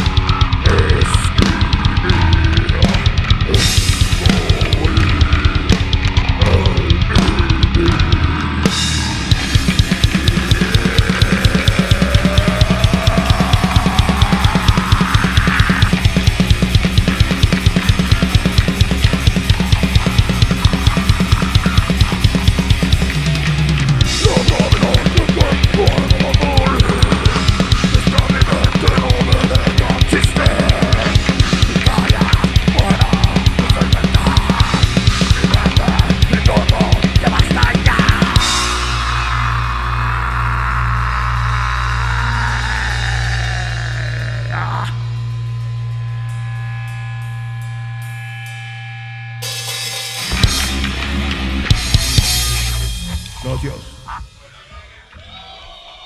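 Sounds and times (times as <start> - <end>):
fast drumming: 0.0 - 45.0, 49.4 - 54.2
metal band playing live: 0.0 - 54.7.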